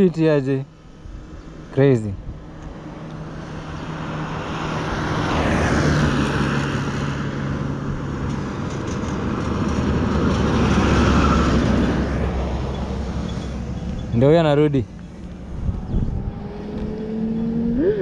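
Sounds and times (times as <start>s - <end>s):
road vehicles passing: 0.0s - 18.0s
truck passing: 2.3s - 18.0s.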